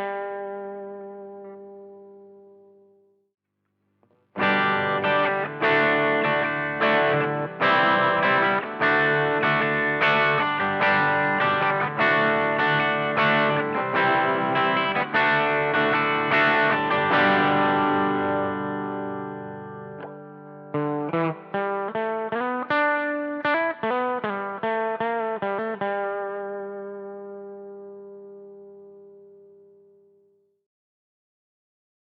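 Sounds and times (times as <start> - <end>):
overdriven electric guitar chords: 0.0 - 3.2, 4.0 - 30.3.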